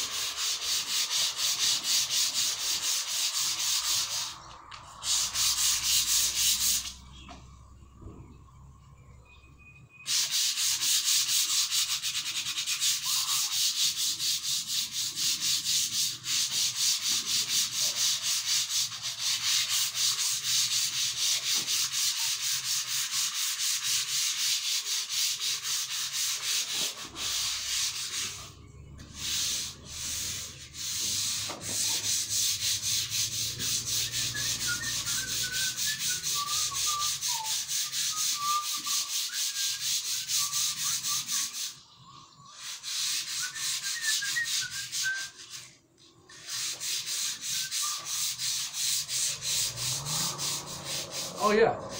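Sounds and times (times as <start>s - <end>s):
sandpaper rubbing strokes: 0.0s - 7.0s, 10.1s - 41.9s, 42.5s - 51.9s.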